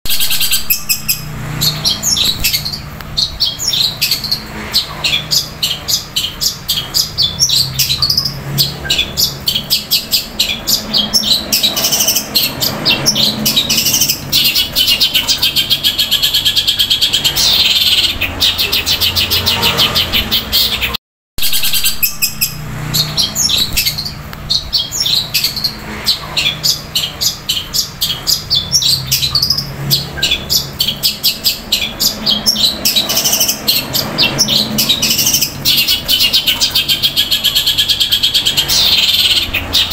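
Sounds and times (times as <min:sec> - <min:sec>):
bird chattering rapid chirps: 0:00.1 - 0:39.9.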